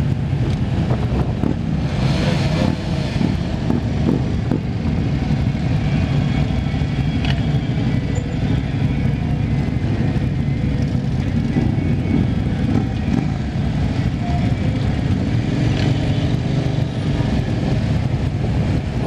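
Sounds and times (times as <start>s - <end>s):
vehicle engines running: 0.0s - 19.0s.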